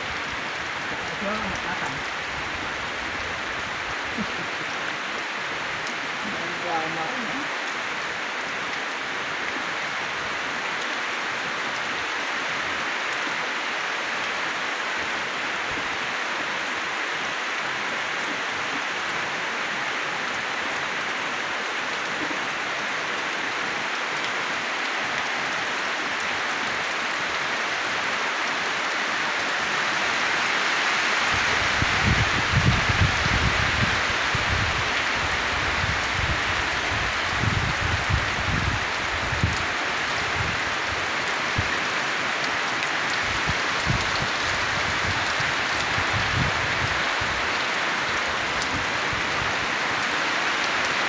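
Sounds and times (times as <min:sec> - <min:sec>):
rain on leaves: 0:00.0 - 0:51.0.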